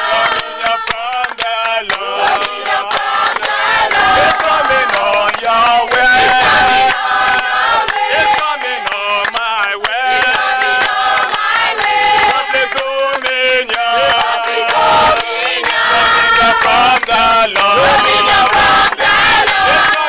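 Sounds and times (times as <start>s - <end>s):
crowd singing: 0.0s - 20.0s
hand clapping: 0.0s - 20.0s.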